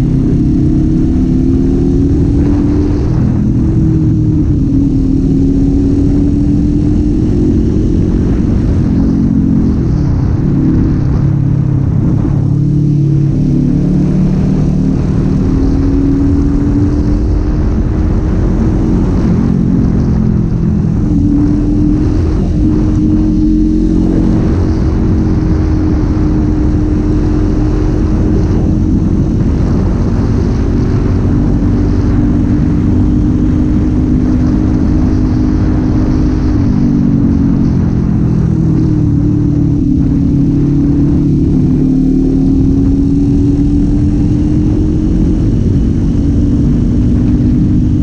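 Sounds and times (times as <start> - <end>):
motorcycle engine running: 0.0 - 48.0
wind and road rumble: 0.0 - 48.0.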